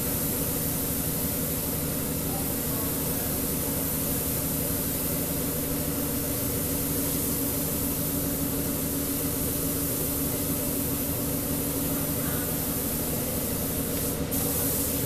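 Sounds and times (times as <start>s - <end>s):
paint spray gun hissing: 0.0s - 15.0s.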